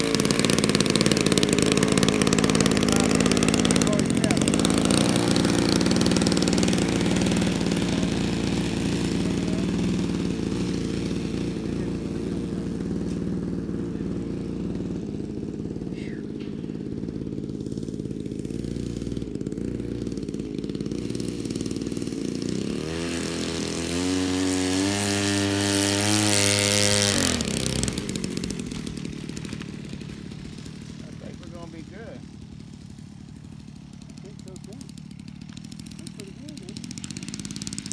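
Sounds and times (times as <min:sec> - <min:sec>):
model airplane engine running: 0:00.0 - 0:37.9.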